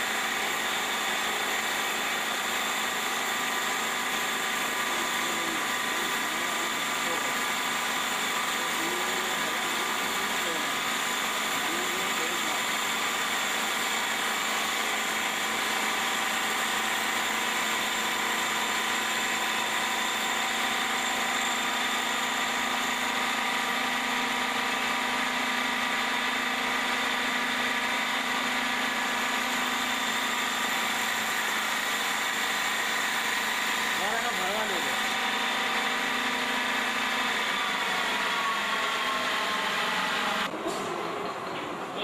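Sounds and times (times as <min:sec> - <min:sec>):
lathe machine drone: 0:00.0 - 0:42.0.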